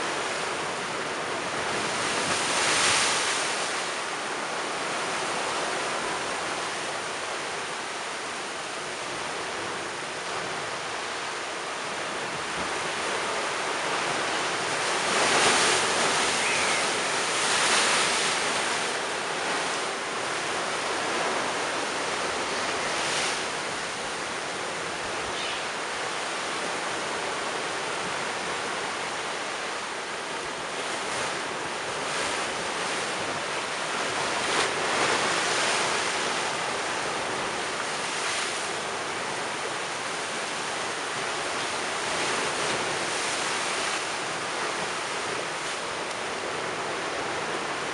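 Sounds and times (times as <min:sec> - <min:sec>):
sea waves crashing on a seawall: 0:00.0 - 0:47.9.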